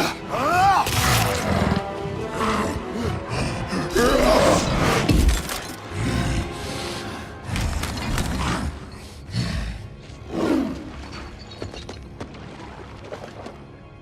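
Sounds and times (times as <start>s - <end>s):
film soundtrack music: 0.0s - 14.0s.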